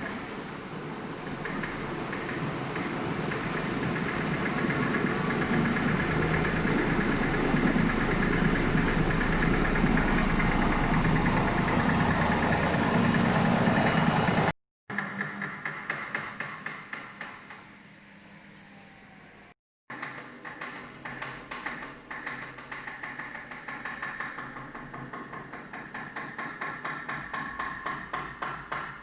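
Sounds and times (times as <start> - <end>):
washing machine drum spinning: 0.0 - 16.2, 19.9 - 29.0
knocking rattle: 1.2 - 17.6, 19.9 - 29.0.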